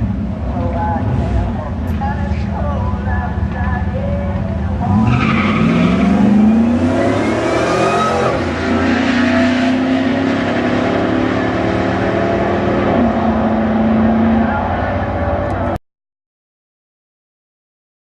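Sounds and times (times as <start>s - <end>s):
car engine accelerating hard: 0.0s - 15.8s.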